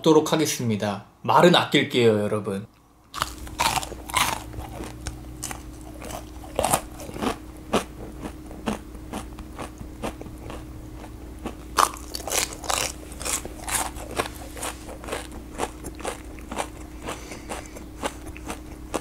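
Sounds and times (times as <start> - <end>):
low steady hum: 0.0 - 19.0
crisp crunching: 3.1 - 19.0
wet chewing: 3.1 - 19.0.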